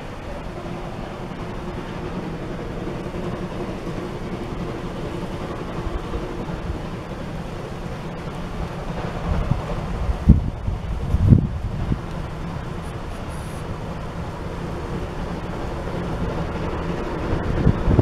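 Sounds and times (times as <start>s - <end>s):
distant steam locomotive exhaust: 0.0s - 18.0s
river rushing: 0.0s - 18.0s
wind buffeting microphone: 0.0s - 18.0s.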